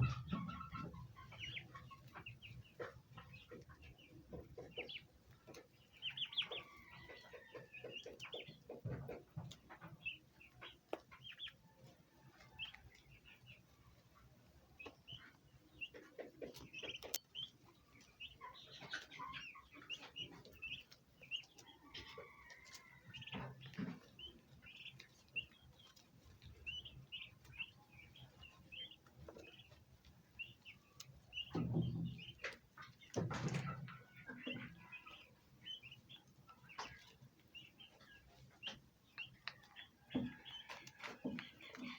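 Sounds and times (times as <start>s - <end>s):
poults peeping: 0.0s - 41.9s
turkey hen clucking: 0.0s - 41.9s.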